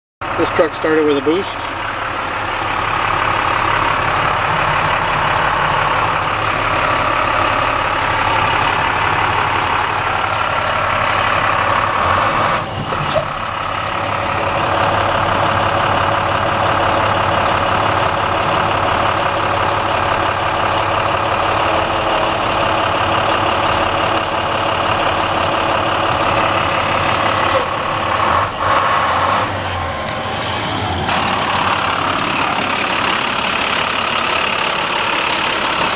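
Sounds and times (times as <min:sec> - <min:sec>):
diesel truck engine idling: 0:00.2 - 0:35.9.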